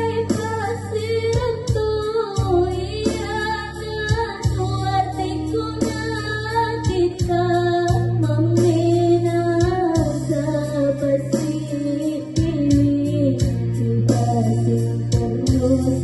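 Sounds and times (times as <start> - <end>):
girl singing into microphone: 0.0 - 16.0
instrumental accompaniment: 0.0 - 16.0.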